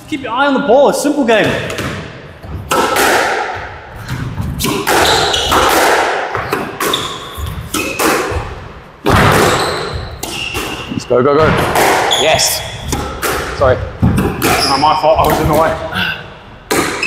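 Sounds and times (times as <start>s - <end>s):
squash ball hits echoing: 1.4s - 15.9s, 16.6s - 17.0s.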